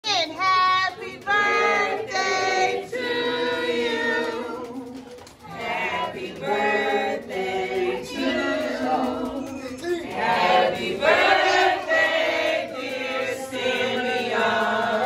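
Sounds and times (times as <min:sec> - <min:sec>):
several voices singing: 0:00.4 - 0:15.0.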